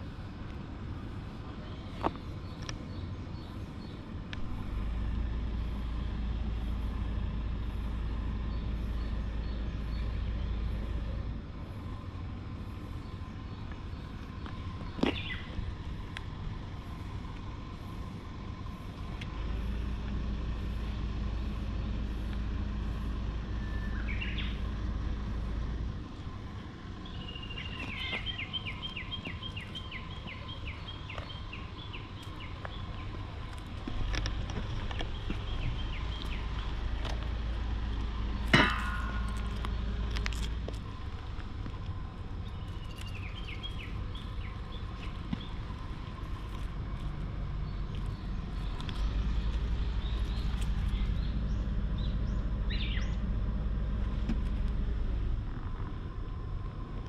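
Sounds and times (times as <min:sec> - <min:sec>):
steady low rumble: 0:00.0 - 0:57.0.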